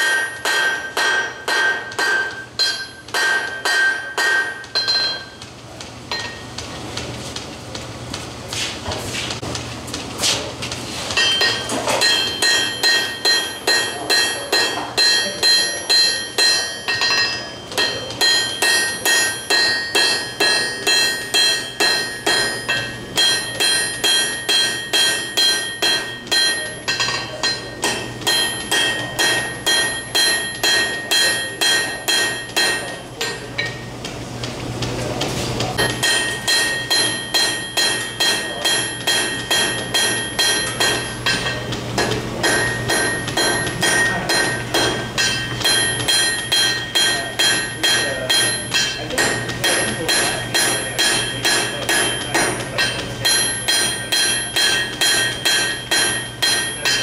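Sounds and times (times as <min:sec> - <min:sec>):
hammer striking iron on an anvil: 0:00.0 - 0:05.5, 0:06.1 - 0:06.5, 0:11.1 - 0:33.8, 0:35.8 - 0:57.0.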